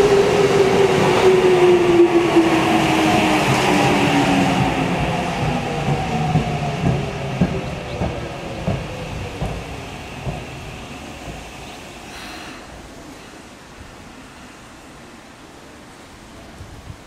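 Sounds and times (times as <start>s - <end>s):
electric train running past: 0.0s - 16.5s.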